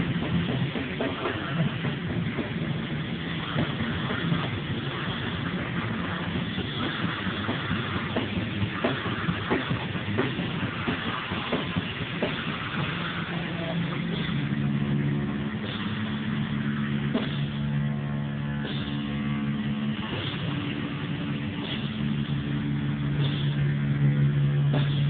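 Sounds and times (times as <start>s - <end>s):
distorted electric guitar: 0.0s - 25.0s
drum hits: 0.0s - 25.0s.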